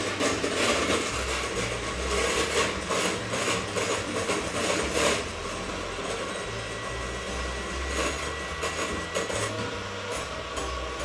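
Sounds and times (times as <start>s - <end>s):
electric hand mixer whipping cream: 0.0s - 11.0s.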